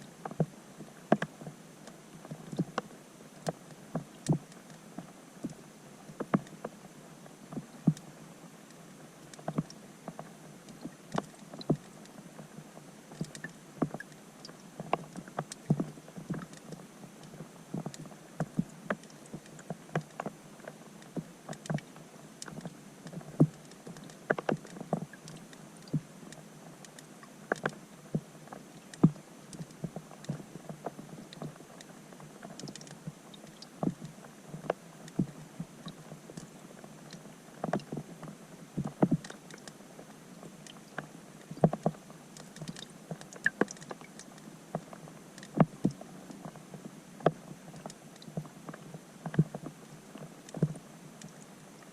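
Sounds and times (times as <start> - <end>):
faint steady hiss: 0.0 - 51.9
raindrops plinking underwater: 7.5 - 51.9.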